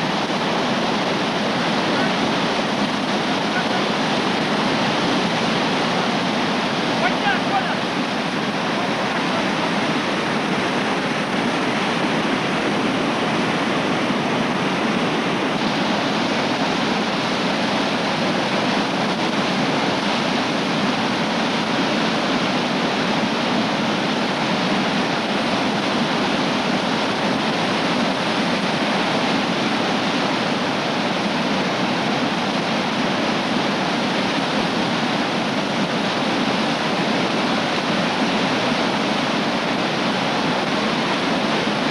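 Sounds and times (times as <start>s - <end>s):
whitewater crashing over rocks: 0.0s - 41.9s.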